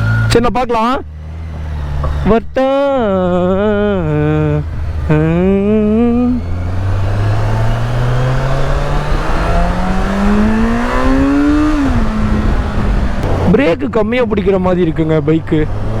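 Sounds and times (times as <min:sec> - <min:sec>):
motorcycle accelerating: 0:00.0 - 0:16.0.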